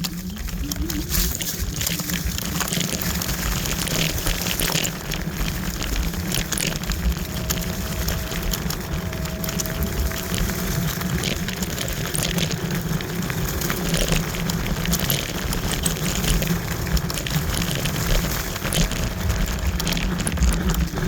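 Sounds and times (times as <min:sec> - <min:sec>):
road rumble: 0:00.0 - 0:21.0
ticks and rattles: 0:00.0 - 0:21.0.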